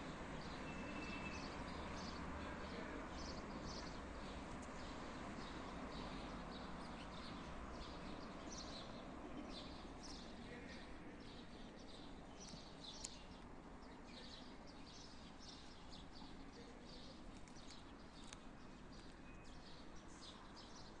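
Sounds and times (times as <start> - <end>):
low steady background noise: 0.0 - 21.0
faint birds chirping: 0.1 - 21.0.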